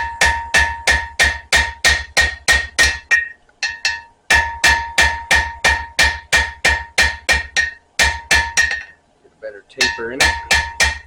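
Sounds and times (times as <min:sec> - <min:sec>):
hammer striking steel on anvil: 0:00.0 - 0:09.0, 0:09.8 - 0:11.0.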